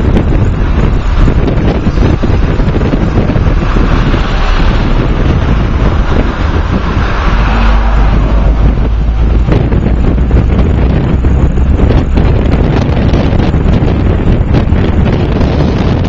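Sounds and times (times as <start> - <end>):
car engine and tyre noise: 0.0 - 16.0
city traffic: 0.0 - 16.0
wind buffeting microphone: 0.0 - 16.0.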